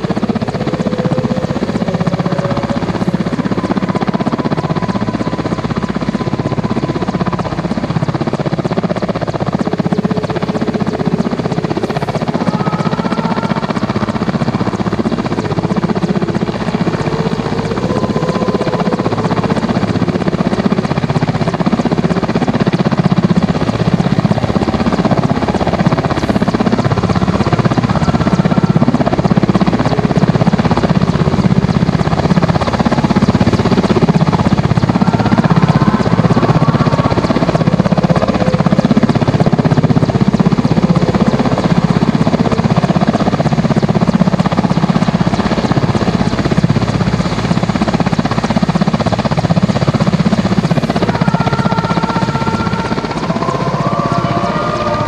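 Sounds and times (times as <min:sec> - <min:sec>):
helicopter engine noise: 0:00.0 - 0:55.0
helicopter rotor chopping: 0:00.0 - 0:55.0.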